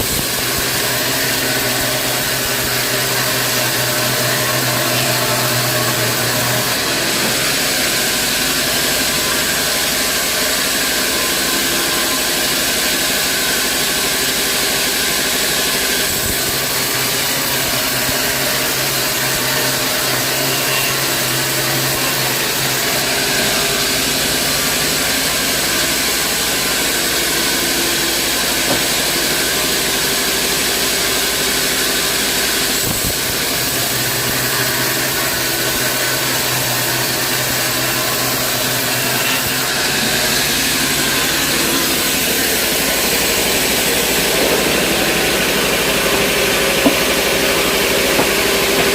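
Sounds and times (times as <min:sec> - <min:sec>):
band sawmill drone: 0:00.0 - 0:48.9
loud machine hiss: 0:00.0 - 0:48.9.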